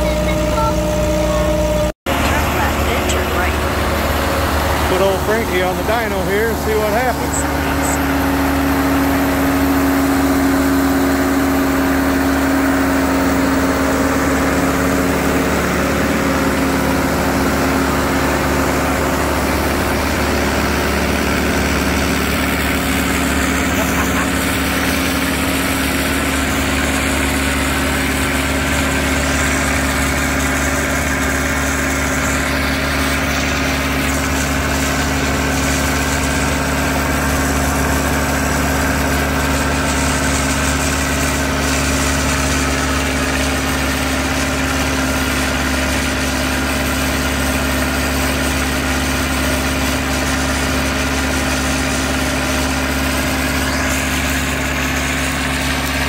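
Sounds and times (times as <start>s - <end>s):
tractor engine running steadily: 0.0s - 56.0s.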